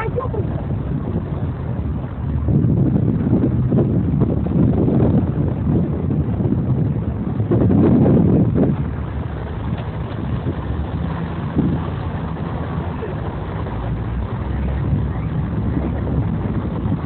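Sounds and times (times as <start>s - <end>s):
low outdoor rumble: 0.0s - 17.0s
wind buffeting microphone: 0.0s - 17.0s.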